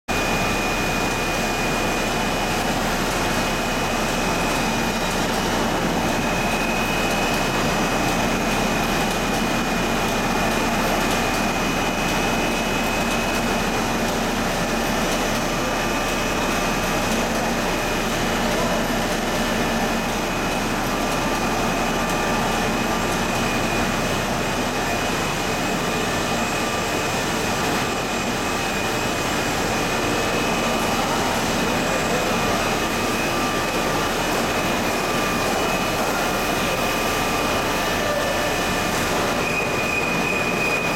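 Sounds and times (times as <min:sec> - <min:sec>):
machinery hum: 0:00.1 - 0:40.9.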